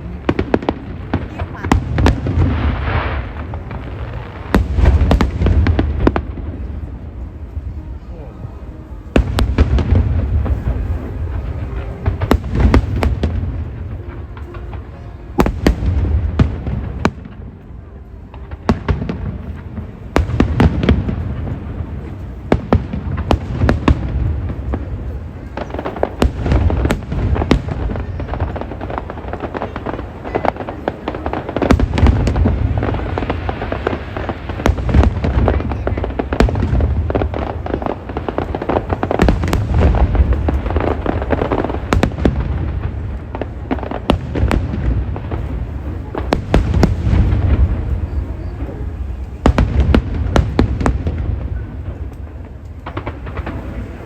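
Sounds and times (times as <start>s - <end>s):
fireworks bangs and booms: 0.0s - 54.0s.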